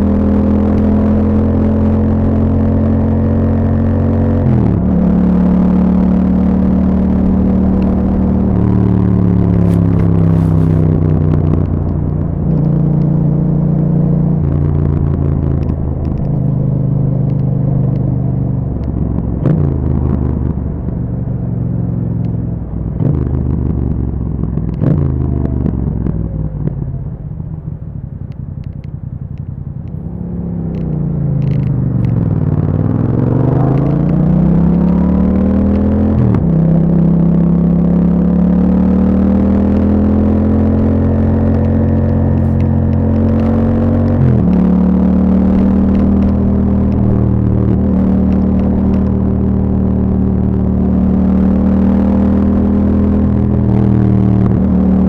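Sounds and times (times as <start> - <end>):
exhaust cracks: 0.0 - 37.5, 38.2 - 55.0
motorcycle engine revving: 0.0 - 55.0.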